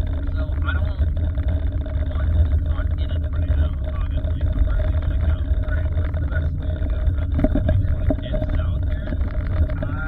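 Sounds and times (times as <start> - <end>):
car road and engine rumble: 0.0 - 10.0
constant hum: 0.0 - 10.0.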